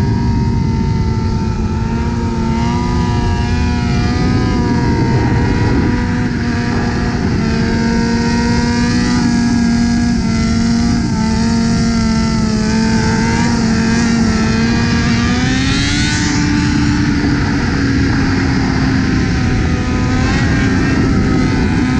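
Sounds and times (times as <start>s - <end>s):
motorcycle engine at high revs: 0.0s - 21.9s.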